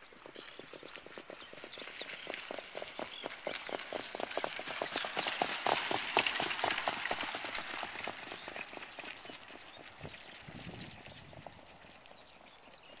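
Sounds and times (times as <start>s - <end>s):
horse hooves clip-clopping on sand: 0.0s - 13.0s.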